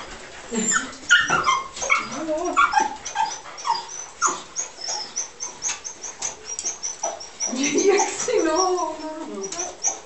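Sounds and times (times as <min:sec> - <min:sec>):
dogs whining and yipping: 0:00.5 - 0:10.0.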